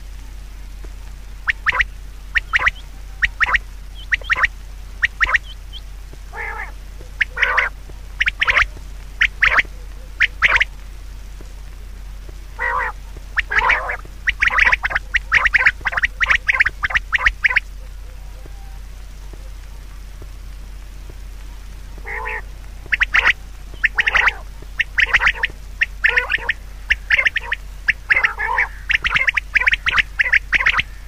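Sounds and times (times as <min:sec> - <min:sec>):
steady low hum: 0:00.0 - 0:31.0
harsh bird calls: 0:01.4 - 0:10.7, 0:12.5 - 0:19.6, 0:22.0 - 0:31.0.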